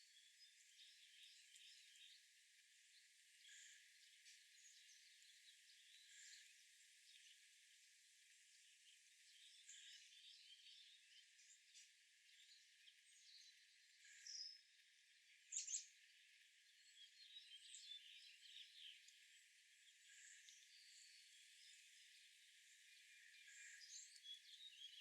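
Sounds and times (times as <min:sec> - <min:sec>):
wild birds chirping: 0:00.0 - 0:25.0.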